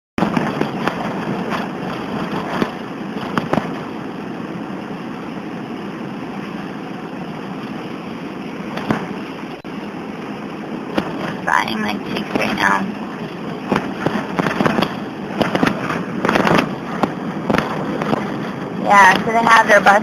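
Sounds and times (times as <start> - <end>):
car running from inside cabin: 0.2 - 20.0.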